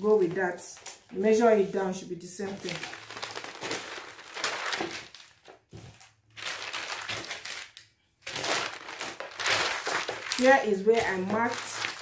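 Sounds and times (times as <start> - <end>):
stiff paper rustling and crackling: 0.0 - 12.0.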